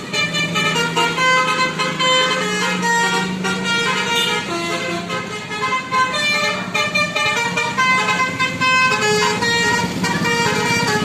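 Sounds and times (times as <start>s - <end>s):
bus engine running: 0.0s - 11.0s
multi-tone bus horn playing tune: 0.0s - 11.0s.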